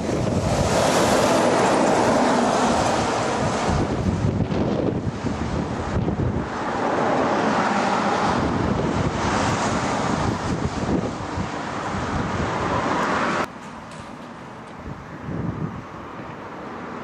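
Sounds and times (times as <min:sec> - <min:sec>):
distant traffic: 0:00.0 - 0:17.0
road traffic passing close: 0:00.0 - 0:17.0
wind buffeting microphone: 0:00.0 - 0:17.0.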